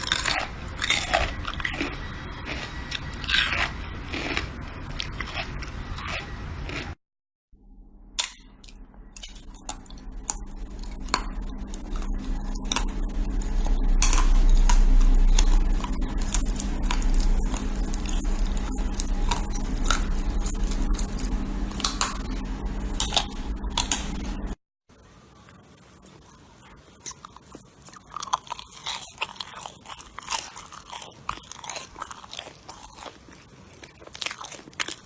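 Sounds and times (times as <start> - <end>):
steady low hum: 0.0 - 7.0, 7.6 - 35.0.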